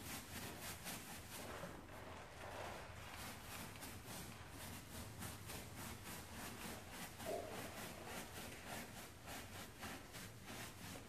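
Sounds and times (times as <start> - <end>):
brush scrubbing wet fabric: 0.0 - 11.0.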